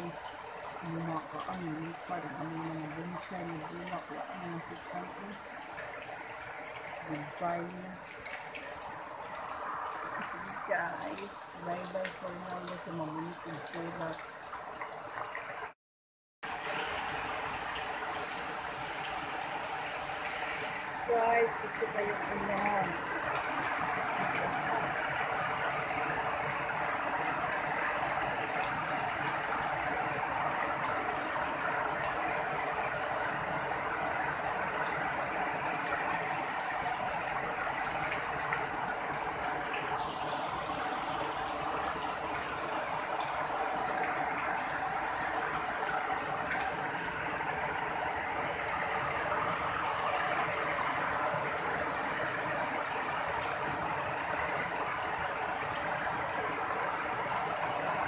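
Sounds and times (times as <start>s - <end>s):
heavy rain splashing on ground: 0.0s - 15.8s, 16.4s - 58.0s.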